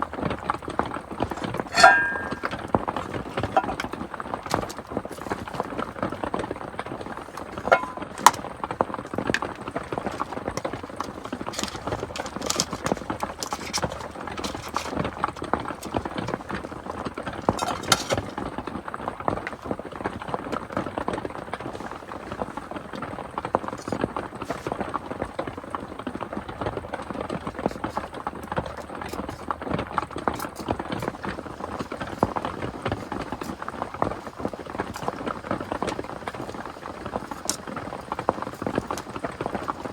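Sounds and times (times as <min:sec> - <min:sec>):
rain pattering on shelter: 0:00.0 - 0:01.8, 0:02.4 - 0:39.9.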